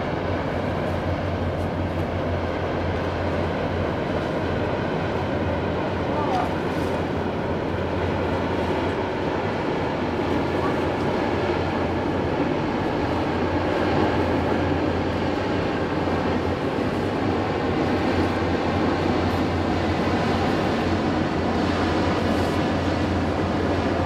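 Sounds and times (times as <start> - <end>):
ship engines droning: 0.0 - 24.0.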